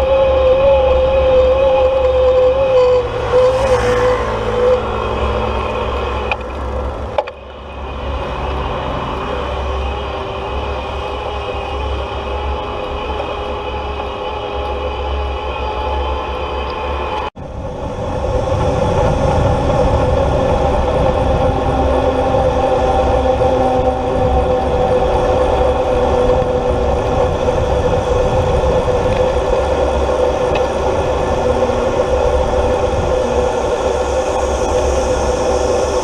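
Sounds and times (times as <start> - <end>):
electric bike motor whine: 0.0 - 36.0
road and wind noise: 0.0 - 36.0.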